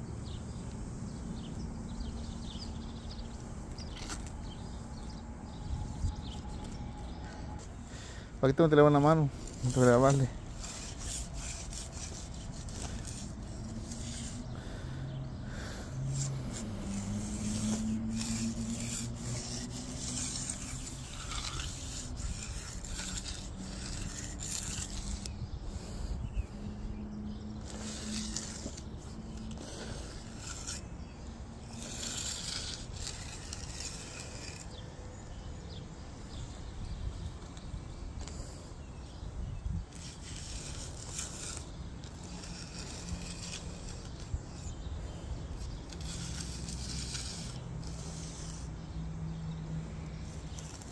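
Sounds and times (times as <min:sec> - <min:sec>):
hand edger scraping wet concrete: 0:00.7 - 0:35.4, 0:39.7 - 0:50.9.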